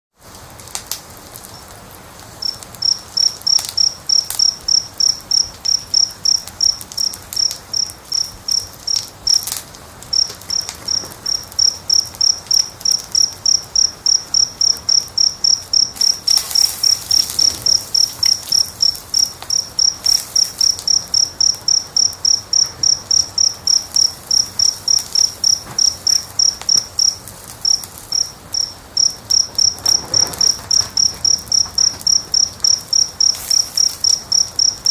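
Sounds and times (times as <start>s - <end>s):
wood fire crackling: 0.2s - 34.9s
cricket chirping: 2.4s - 34.9s.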